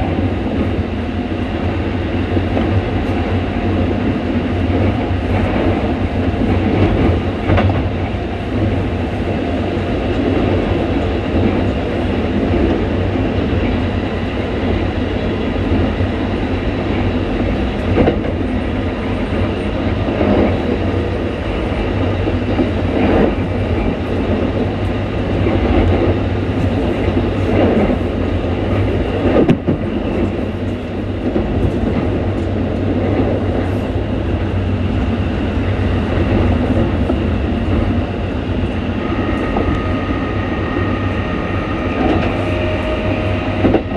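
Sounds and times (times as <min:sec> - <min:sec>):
train traction motor drone: 0:00.0 - 0:43.9
rail-joint clicks: 0:02.3 - 0:16.1, 0:16.8 - 0:43.9.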